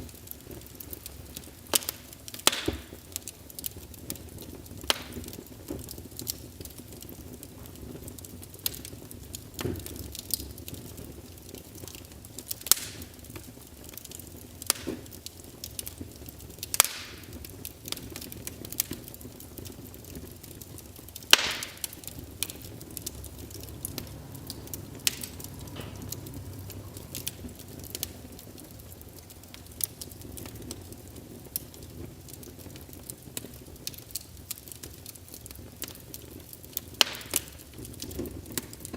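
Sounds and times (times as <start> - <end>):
fire pops: 0.0 - 38.9
low rumble of flames: 0.0 - 38.9
wood fire crackling: 0.0 - 38.9.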